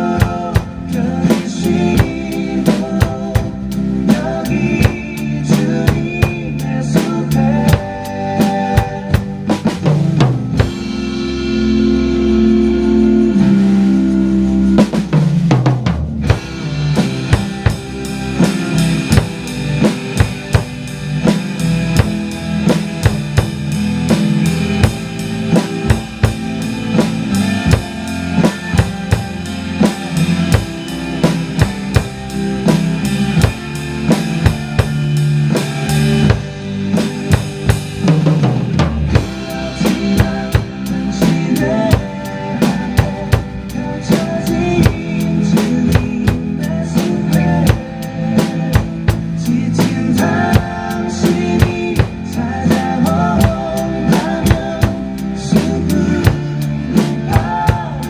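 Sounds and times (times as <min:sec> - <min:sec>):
backing track music: 0:00.0 - 0:58.0
drum kit playing: 0:00.0 - 0:58.0.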